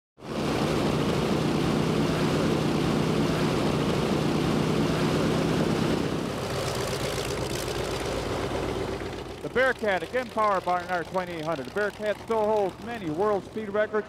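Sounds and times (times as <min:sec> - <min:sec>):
radial aircraft engine running: 0:00.2 - 0:14.0.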